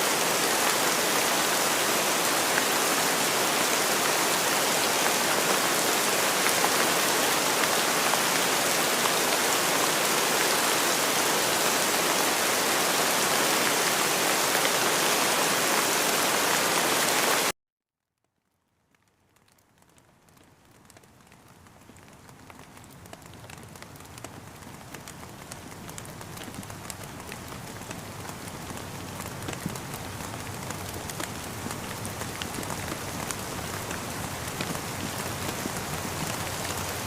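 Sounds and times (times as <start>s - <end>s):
rain falling: 0.0s - 17.5s, 18.3s - 37.0s.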